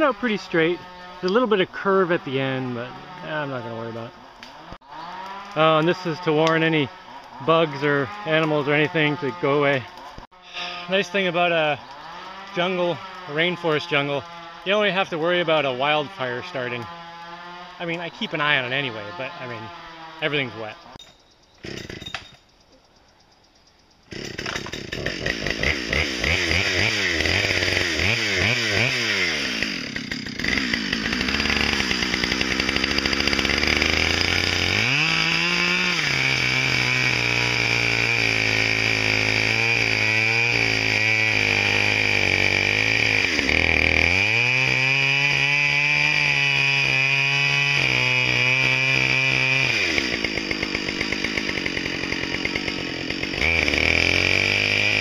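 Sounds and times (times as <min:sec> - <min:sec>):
chainsaw revving and cutting: 0:00.0 - 0:21.0, 0:21.6 - 0:22.2, 0:24.1 - 0:55.0.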